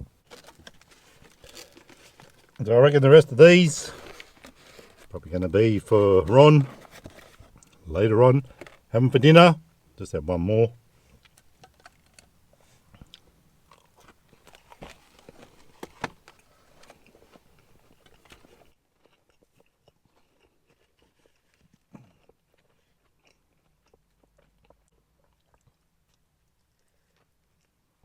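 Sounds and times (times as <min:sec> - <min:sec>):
chewing and crunching food: 0:00.1 - 0:09.0, 0:10.9 - 0:28.0.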